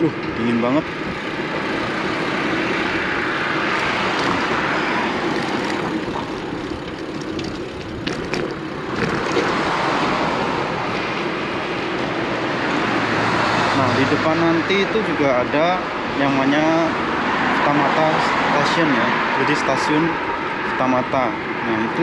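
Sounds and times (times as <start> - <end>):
car passing: 0.0 - 22.0
road noise: 0.0 - 22.0.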